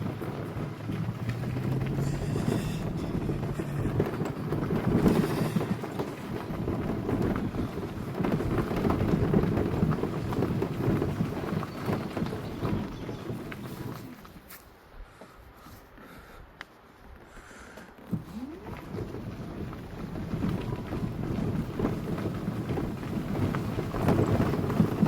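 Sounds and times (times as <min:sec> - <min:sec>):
vehicle engine hum: 0:00.0 - 0:14.5, 0:18.0 - 0:25.0
tyres rumbling on gravel: 0:00.0 - 0:14.8, 0:17.4 - 0:25.0.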